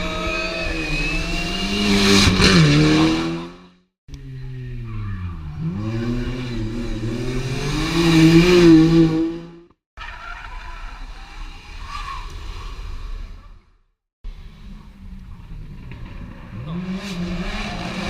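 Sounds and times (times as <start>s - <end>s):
rally car engines at full throttle: 0.0s - 13.0s, 14.3s - 18.0s.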